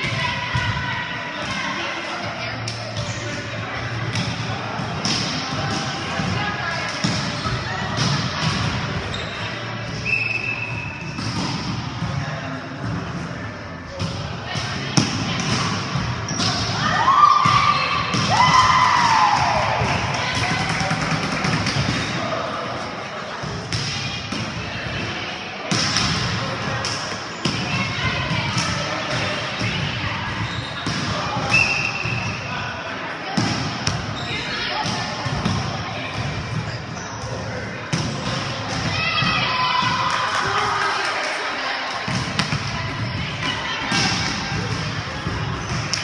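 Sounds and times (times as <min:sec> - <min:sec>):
players' voices: 0:00.0 - 0:46.0
volleyballs hit and bouncing: 0:00.0 - 0:46.0.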